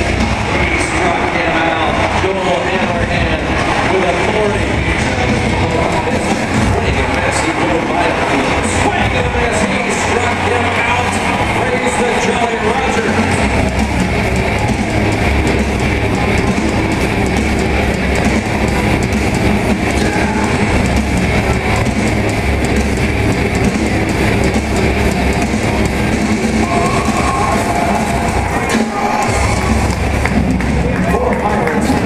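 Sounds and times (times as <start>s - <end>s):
rock music over loudspeakers: 0.0s - 32.0s.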